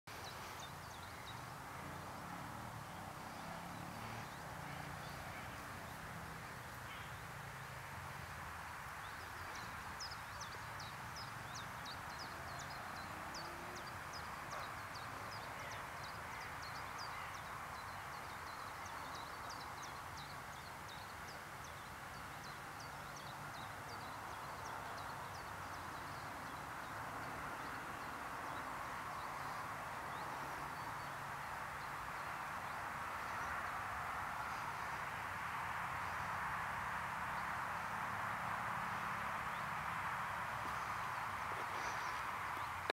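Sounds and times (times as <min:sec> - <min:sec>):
small birds chirping: 0:00.1 - 0:35.1, 0:38.9 - 0:42.9
steady background hiss: 0:00.1 - 0:42.9.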